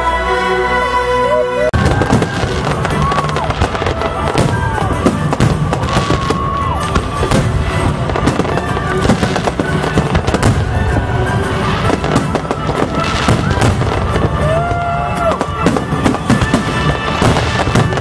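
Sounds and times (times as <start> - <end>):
music playing: 0.0 - 18.0
fireworks shells bursting: 1.9 - 18.0.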